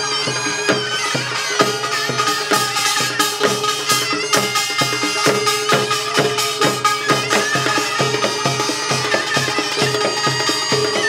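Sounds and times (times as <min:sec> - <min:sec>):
barrel drums and percussion: 0:00.0 - 0:11.0
held wind instrument note: 0:00.0 - 0:11.0.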